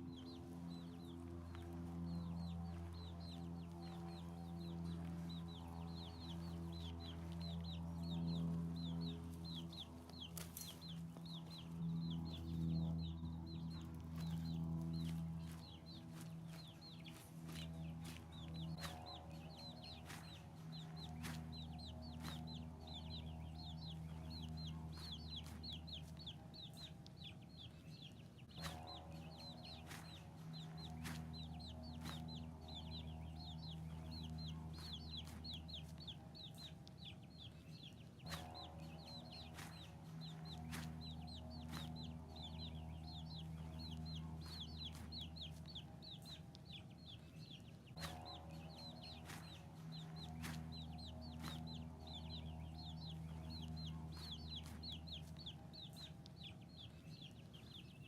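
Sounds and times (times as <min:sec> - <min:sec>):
baby chicks peeping: 0:00.0 - 0:58.0.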